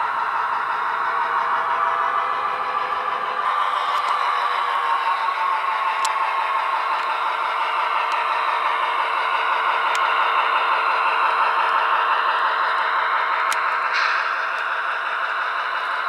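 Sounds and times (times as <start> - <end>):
tinny diesel engine drone: 0.0 - 16.0.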